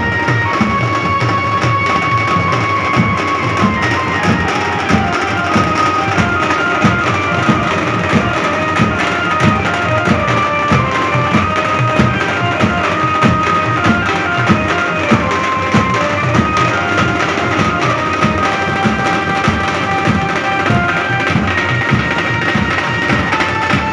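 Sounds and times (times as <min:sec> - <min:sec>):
high stepping melody: 0:00.0 - 0:23.9
marching drum band: 0:00.0 - 0:23.9
metal-shelled drums: 0:00.0 - 0:23.9.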